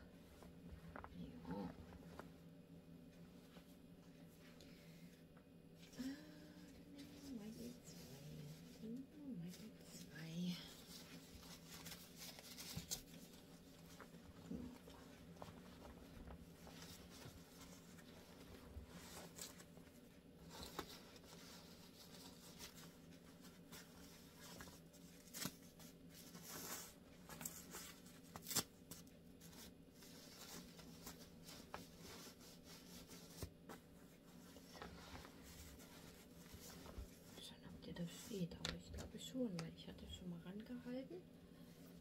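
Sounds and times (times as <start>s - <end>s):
low room hum: 0.0s - 42.0s
nappy rustling and crinkling: 6.0s - 40.0s.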